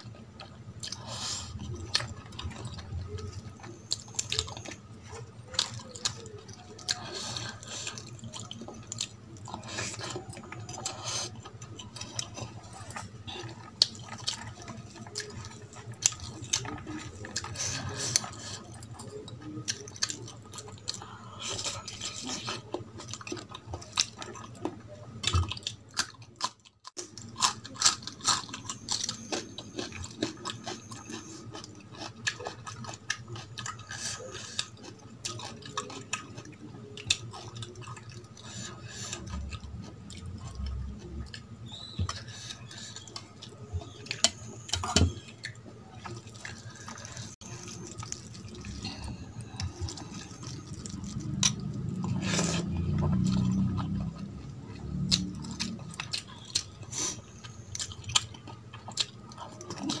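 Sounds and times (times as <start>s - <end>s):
close chewing: 0.0s - 60.0s.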